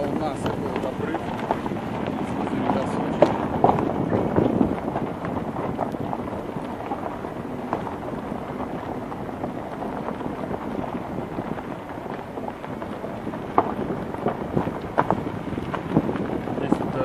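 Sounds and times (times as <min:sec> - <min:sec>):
tyres rumbling over gravel: 0:00.0 - 0:17.0.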